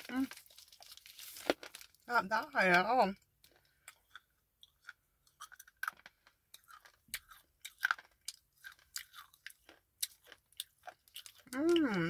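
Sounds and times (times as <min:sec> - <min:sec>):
person chewing crunchy clay: 0:00.0 - 0:02.0, 0:03.4 - 0:12.0.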